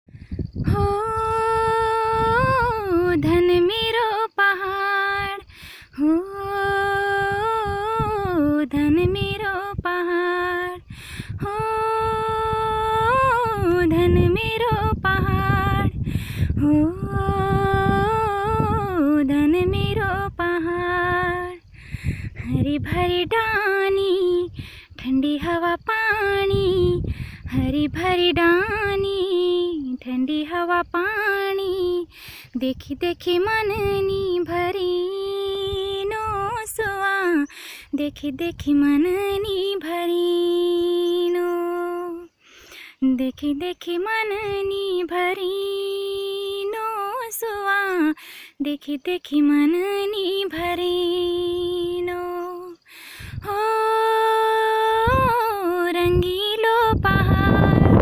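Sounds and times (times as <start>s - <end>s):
woman singing unaccompanied: 0.6s - 58.0s.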